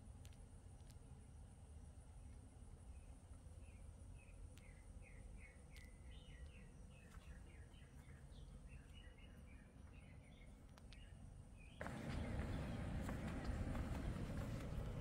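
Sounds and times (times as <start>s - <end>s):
faint birds chirping: 0.0s - 15.0s
low steady background rumble: 0.0s - 15.0s.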